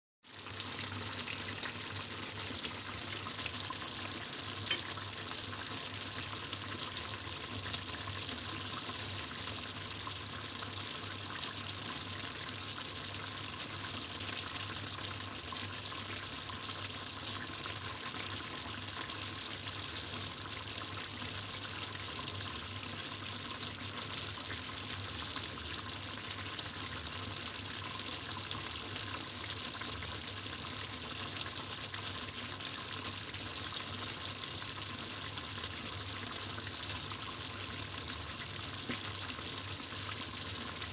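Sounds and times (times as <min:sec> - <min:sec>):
stew bubbling and sizzling: 0:00.2 - 0:40.9.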